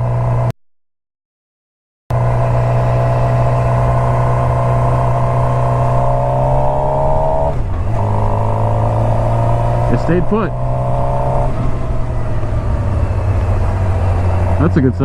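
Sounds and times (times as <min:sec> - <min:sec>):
motorcycle engine running: 0:00.0 - 0:00.5, 0:02.1 - 0:15.0.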